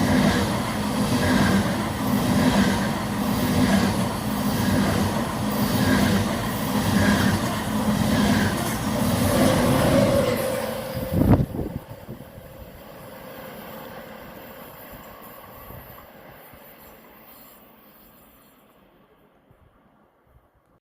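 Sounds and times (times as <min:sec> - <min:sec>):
high-speed train passing: 0:00.0 - 0:20.7
rushing rail noise: 0:00.0 - 0:20.7.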